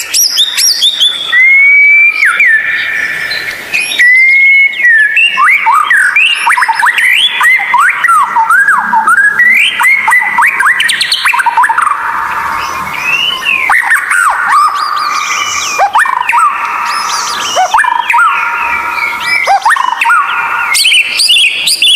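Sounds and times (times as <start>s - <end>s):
songbird whistling and singing: 0.0s - 21.9s.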